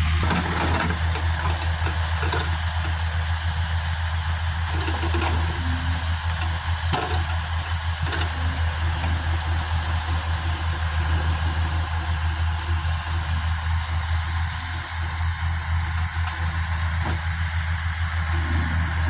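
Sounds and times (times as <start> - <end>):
backhoe bucket working: 0.0 - 19.0
diesel engine running: 0.0 - 19.0.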